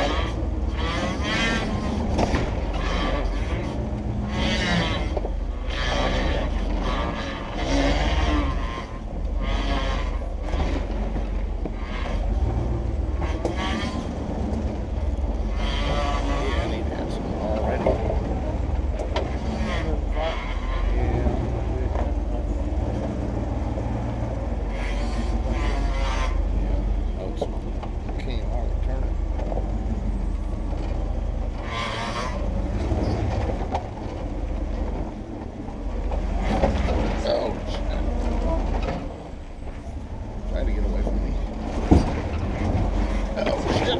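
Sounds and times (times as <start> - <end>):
engine rumble crawling over rocks: 0.0 - 43.9.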